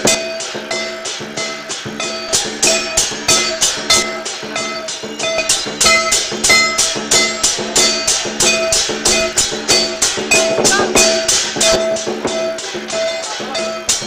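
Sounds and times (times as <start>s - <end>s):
cymbals clashing: 0.0s - 14.0s
drum beating: 0.0s - 14.0s
gong struck: 0.0s - 14.0s.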